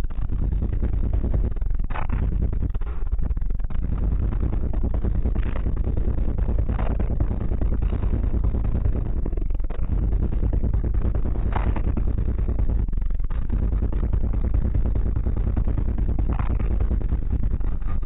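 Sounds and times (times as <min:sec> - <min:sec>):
loud bass-heavy music: 0:00.0 - 0:18.0.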